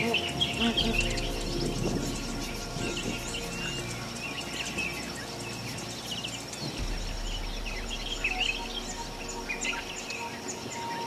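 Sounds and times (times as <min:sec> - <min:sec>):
high insect trill: 0:00.0 - 0:11.0
small birds chirping: 0:00.0 - 0:11.0.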